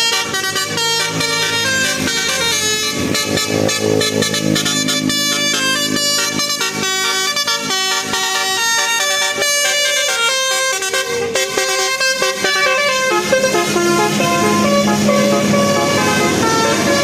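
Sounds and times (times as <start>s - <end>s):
musical air horn tune: 0.0s - 17.0s.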